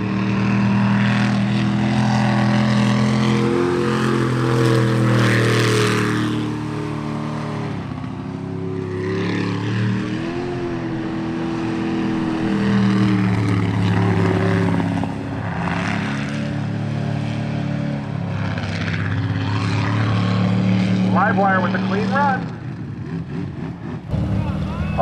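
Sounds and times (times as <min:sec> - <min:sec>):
boat engine racing: 0:00.0 - 0:25.0.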